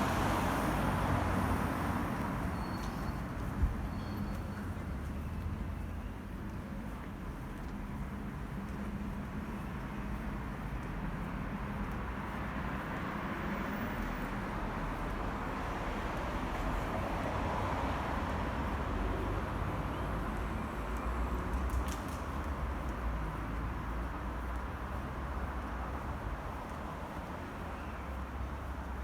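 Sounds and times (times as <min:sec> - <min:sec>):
city traffic rumble: 0:00.0 - 0:29.0.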